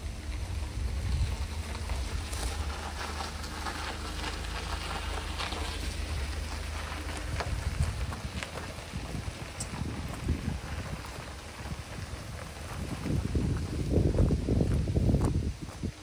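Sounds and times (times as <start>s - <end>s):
scattered crackles: 0.0s - 13.3s
wind rumble on microphone: 0.0s - 16.0s.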